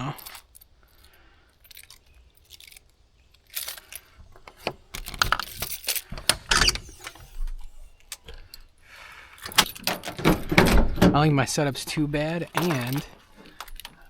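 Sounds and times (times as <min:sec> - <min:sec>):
metallic clinks and knocks: 0:00.0 - 0:08.8, 0:09.4 - 0:14.0
rustling: 0:00.2 - 0:14.0.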